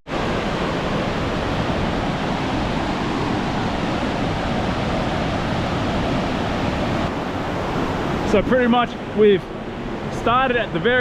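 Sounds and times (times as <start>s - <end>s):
waterfall rushing: 0.1s - 10.8s.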